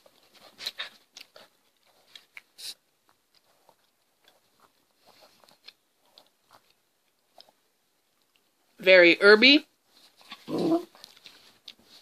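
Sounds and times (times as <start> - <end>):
chewing with mouth clicks: 0.1 - 8.6, 10.2 - 12.0.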